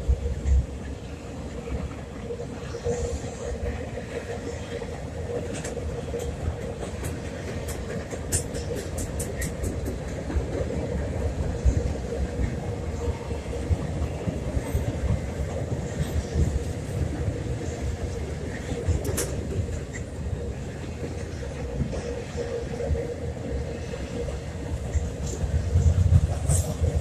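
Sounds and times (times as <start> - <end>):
train rumbling over trestle: 0.0 - 27.0.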